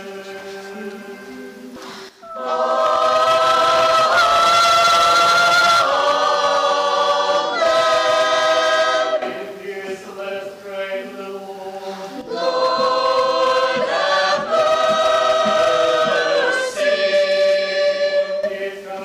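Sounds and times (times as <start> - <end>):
church choir singing: 0.0 - 19.0.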